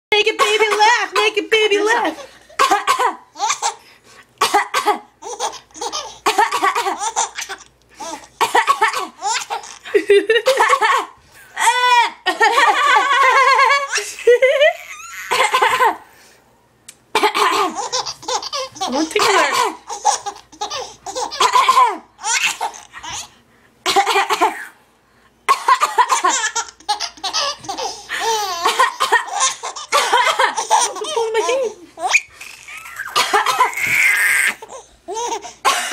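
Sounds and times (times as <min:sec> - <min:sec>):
baby laughing: 0:02.2 - 0:03.8, 0:04.6 - 0:16.0, 0:17.2 - 0:23.3, 0:25.6 - 0:35.9.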